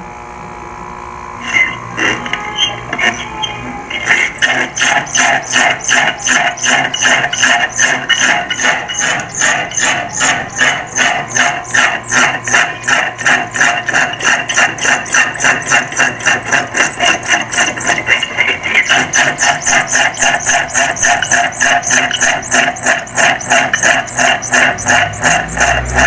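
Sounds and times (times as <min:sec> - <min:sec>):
air conditioner fan motor rattling: 0:00.0 - 0:26.0.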